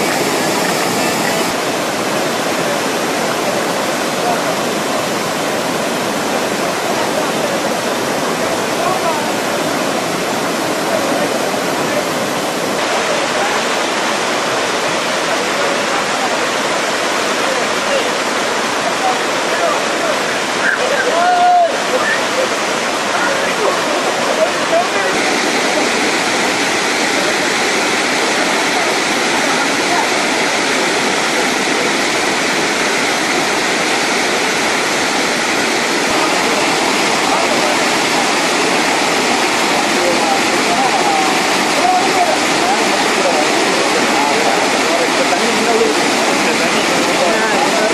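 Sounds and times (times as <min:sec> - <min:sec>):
waterfall splashing onto rocks: 0:00.0 - 0:47.9.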